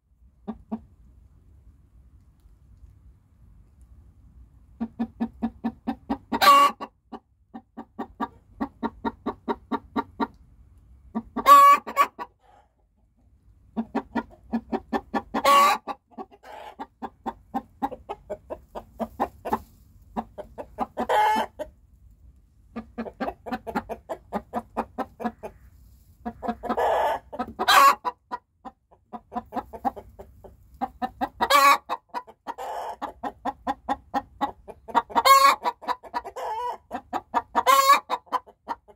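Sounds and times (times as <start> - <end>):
hen clucking and squawking: 0.4 - 0.9, 4.7 - 21.9, 22.6 - 38.9.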